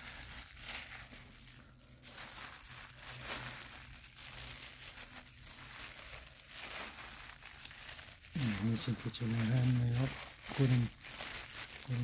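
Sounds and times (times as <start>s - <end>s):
compost rustling and crackling: 0.0s - 12.0s.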